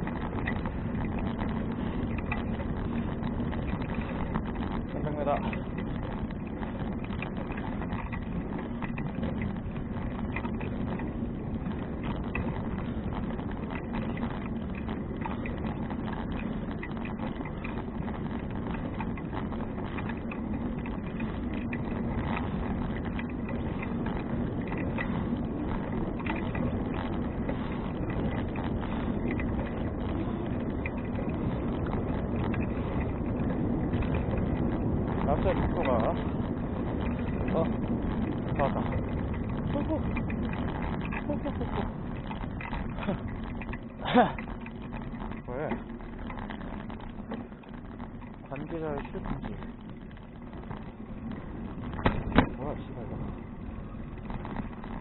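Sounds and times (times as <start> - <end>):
bicycle tyre rumble: 0.0 - 55.0
small ticks and rattles: 0.0 - 55.0
wind rush: 0.0 - 55.0.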